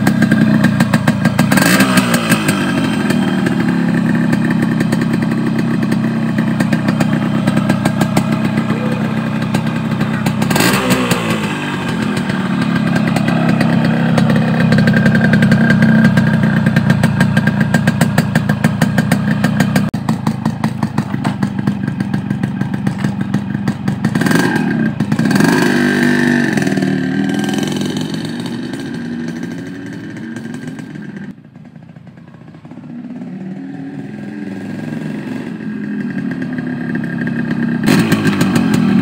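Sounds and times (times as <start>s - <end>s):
motorcycle engine idling and revving: 0.0s - 39.0s.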